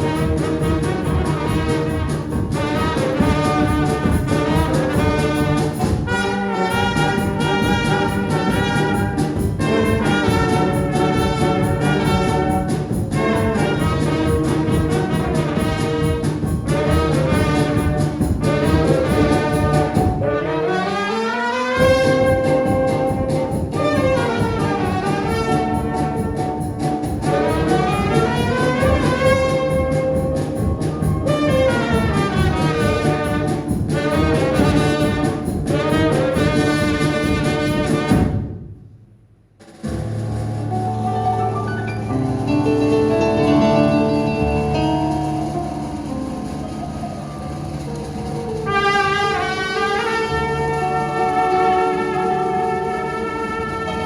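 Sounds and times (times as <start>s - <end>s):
brass band playing: 0.0s - 38.6s, 39.6s - 54.0s.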